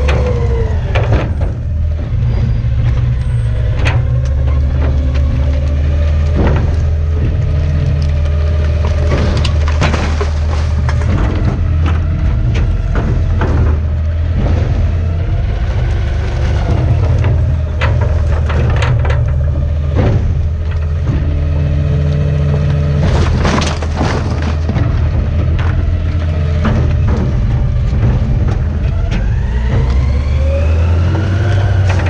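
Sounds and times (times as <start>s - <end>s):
trash cracking under compactor: 0.0s - 32.0s
truck engine hum: 0.0s - 32.0s.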